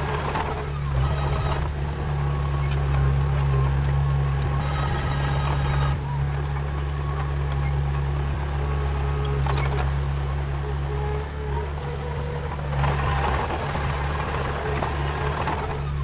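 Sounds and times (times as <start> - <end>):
bulldozer diesel engine: 0.0 - 16.0.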